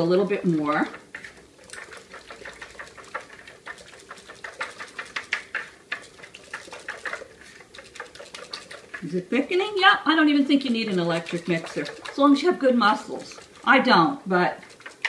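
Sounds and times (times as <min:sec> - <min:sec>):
whisk clicking and scraping bowl: 0:00.0 - 0:15.0.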